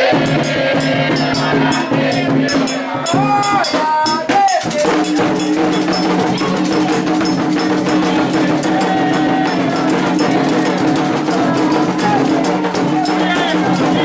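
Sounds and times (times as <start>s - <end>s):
drums and percussion rhythm: 0.0s - 14.0s.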